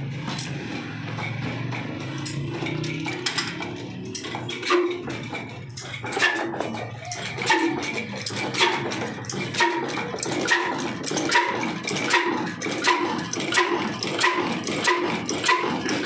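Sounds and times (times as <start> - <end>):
diesel engine firing in heavy beats: 0.0 - 16.0.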